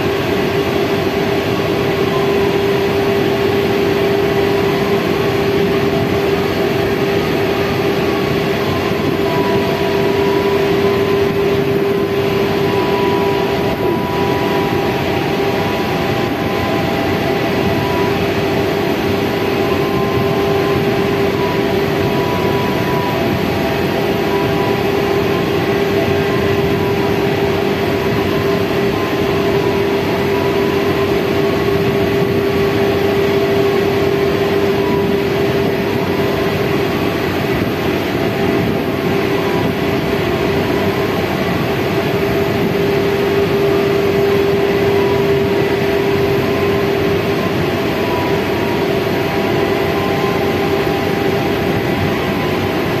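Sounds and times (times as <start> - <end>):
heavy machinery droning: 0.0 - 53.0.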